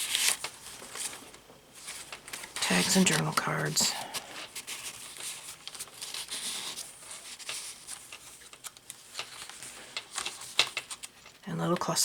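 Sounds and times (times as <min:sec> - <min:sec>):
paper rustling: 0:00.0 - 0:11.8.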